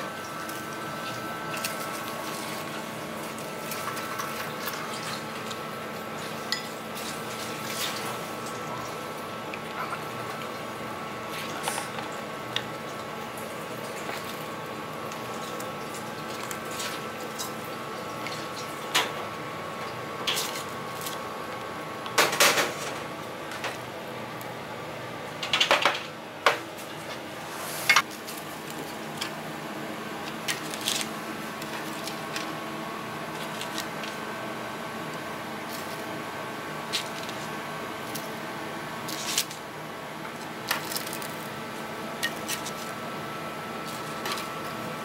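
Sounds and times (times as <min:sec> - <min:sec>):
kitchen hum: 0:00.0 - 0:45.0.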